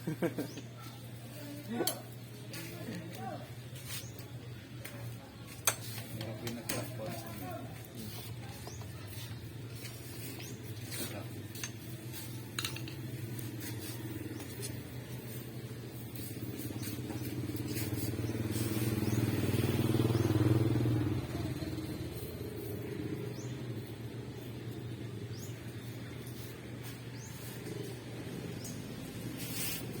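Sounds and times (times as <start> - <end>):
small motorbike engine running: 5.8 - 30.0.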